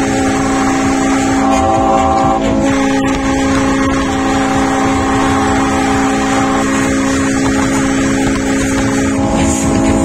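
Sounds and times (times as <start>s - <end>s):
ship horns sounding chord: 0.0s - 10.0s.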